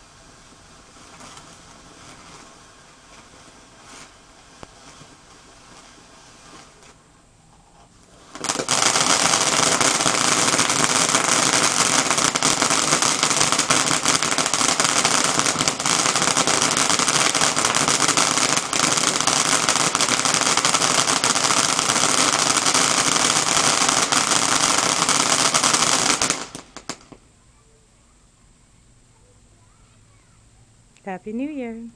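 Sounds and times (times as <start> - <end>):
firework fountain hissing and crackling: 0.0 - 27.8.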